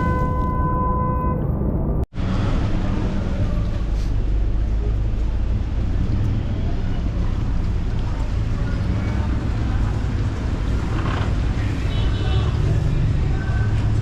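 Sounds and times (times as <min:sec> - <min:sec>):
motorcycle engine and road rumble: 0:00.0 - 0:14.0.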